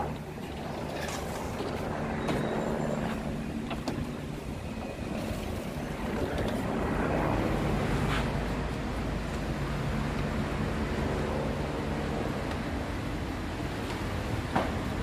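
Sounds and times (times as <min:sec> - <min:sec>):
car wash machinery humming: 0:00.0 - 0:15.0.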